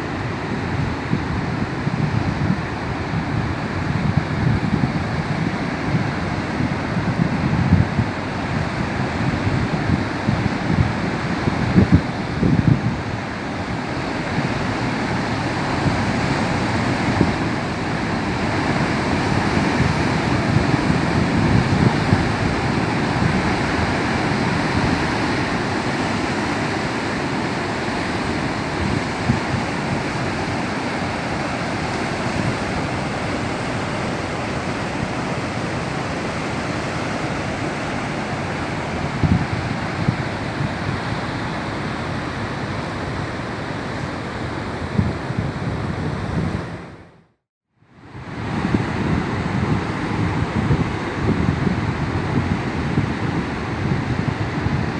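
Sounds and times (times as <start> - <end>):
waves breaking against shore: 0.0 - 47.1, 48.0 - 54.9
wind buffeting microphone: 0.0 - 47.1, 48.1 - 54.9
heavy surf surges rumbling: 0.0 - 47.2, 48.0 - 54.9.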